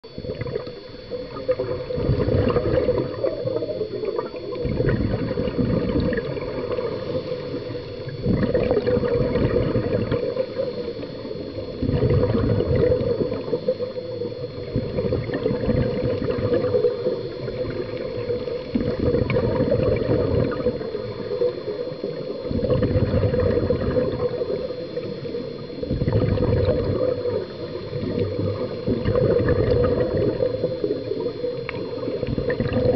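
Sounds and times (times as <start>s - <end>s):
exhaled bubbles gurgling: 0.0s - 32.9s.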